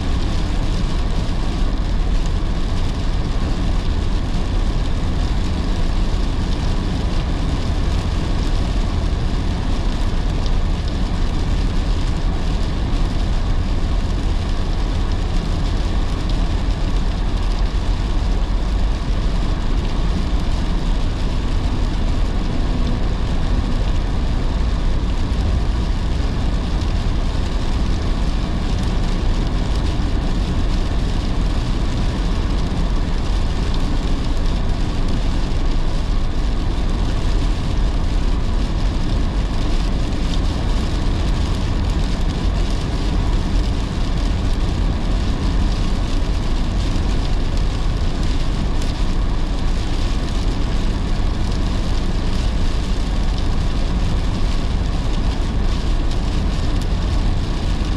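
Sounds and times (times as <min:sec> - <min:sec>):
car tyres on wet road: 0:00.0 - 0:57.9
rain falling on car: 0:00.0 - 0:57.9.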